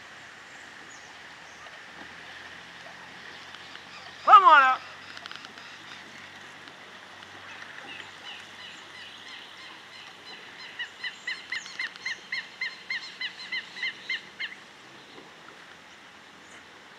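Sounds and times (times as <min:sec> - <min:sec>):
steady outdoor hiss: 0:00.0 - 0:16.9.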